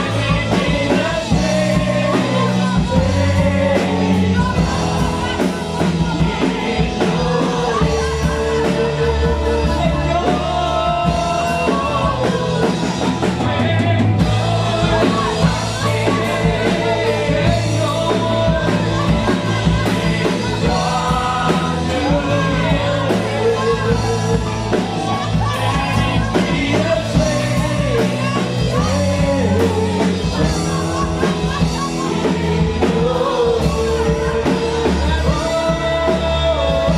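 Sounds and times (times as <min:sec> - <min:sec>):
band playing worship music: 0:00.0 - 0:36.9
people singing: 0:00.0 - 0:36.9.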